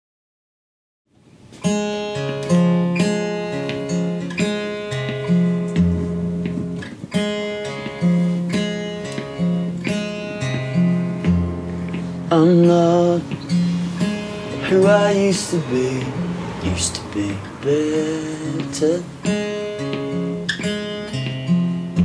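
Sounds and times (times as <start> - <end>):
solo acoustic guitar: 1.4 - 22.0.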